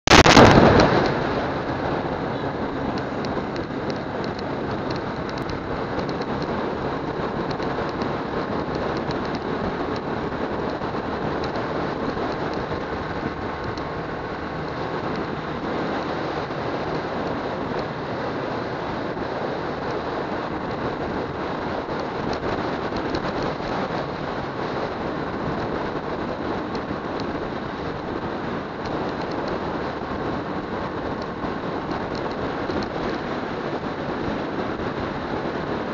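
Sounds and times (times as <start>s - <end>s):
wind and road noise: 0.0s - 35.9s.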